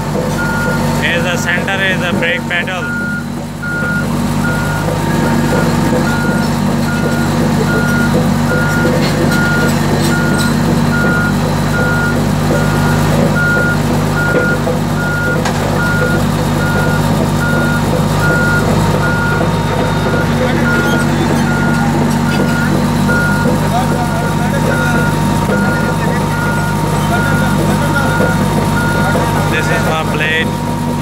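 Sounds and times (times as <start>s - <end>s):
bulldozer diesel engine: 0.0s - 31.0s
warning alarm beeping: 0.4s - 30.5s.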